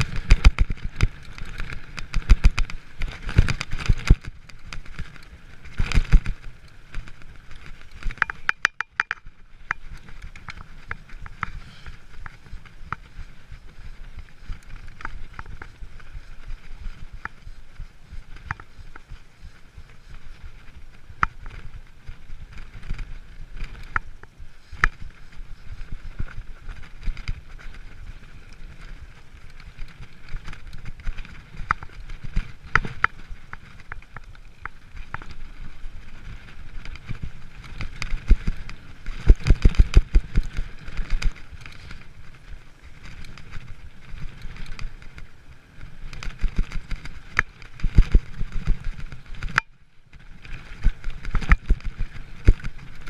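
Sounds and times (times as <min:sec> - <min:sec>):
bike clicks and rattles: 0:00.0 - 0:53.0
bike tyres rumbling on dirt: 0:00.0 - 0:53.0.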